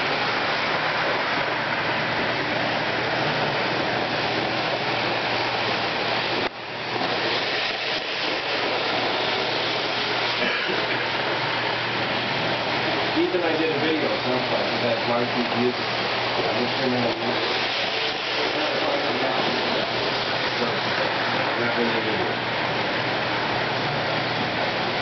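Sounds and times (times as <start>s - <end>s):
model train running on track: 0.0s - 25.0s.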